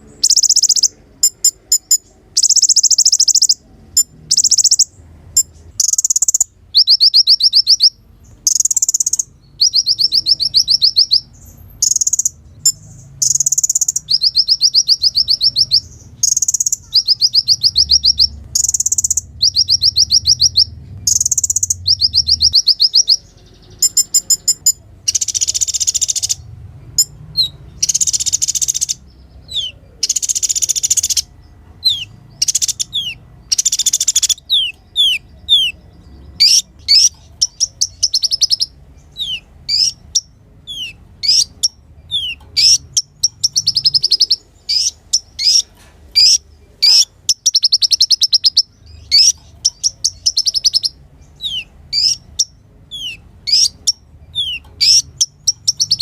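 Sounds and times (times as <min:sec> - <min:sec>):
bird trilled twittering: 0:00.0 - 0:56.0.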